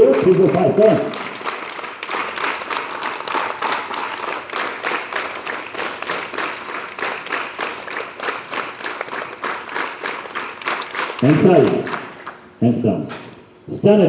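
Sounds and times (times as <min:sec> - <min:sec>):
group clapping in rhythm: 0:00.0 - 0:13.4.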